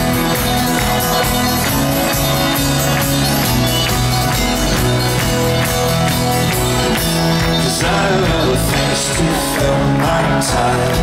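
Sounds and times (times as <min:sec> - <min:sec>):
driving beat: 0:00.0 - 0:11.0
strummed acoustic instruments: 0:00.0 - 0:11.0
upright bass notes: 0:00.0 - 0:11.0.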